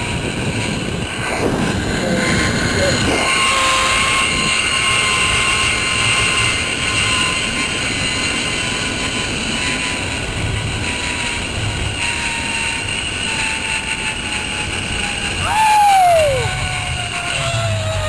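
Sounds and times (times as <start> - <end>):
wind noise on microphone: 0.0 - 18.0
zip line pulleys whining: 0.0 - 18.0.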